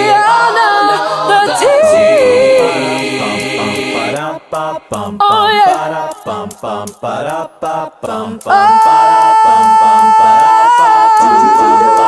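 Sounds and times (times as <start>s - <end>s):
a cappella singing: 0.0s - 12.0s.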